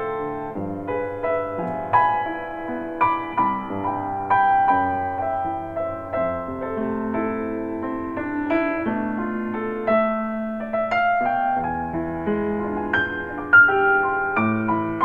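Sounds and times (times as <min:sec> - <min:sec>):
piano music with bass line: 0:00.0 - 0:15.0.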